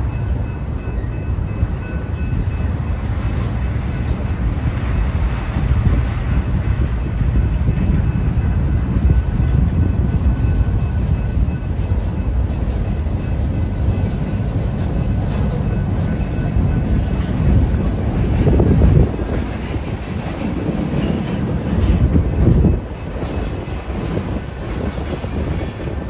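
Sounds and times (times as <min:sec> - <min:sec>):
steel wheels rumbling on rail: 0:00.0 - 0:26.0.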